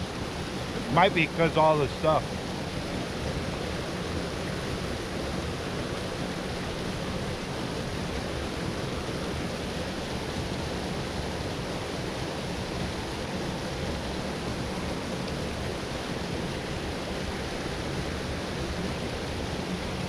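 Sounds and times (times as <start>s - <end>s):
water pouring down spillway: 0.0s - 20.0s.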